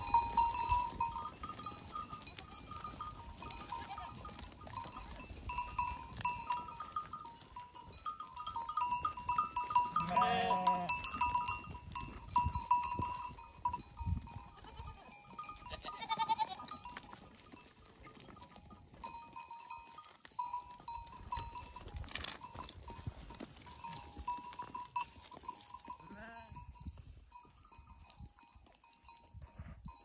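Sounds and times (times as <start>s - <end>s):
sheep and goats bleating: 0.0s - 26.8s.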